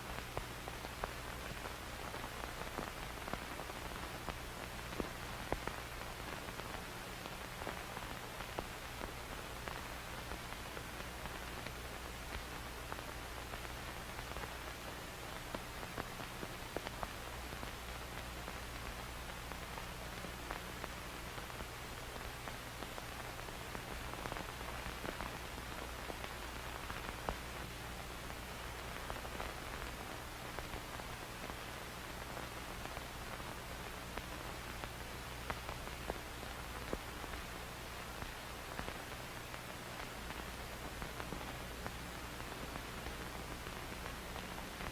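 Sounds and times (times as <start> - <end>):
film crackle hiss: 0.0 - 44.9.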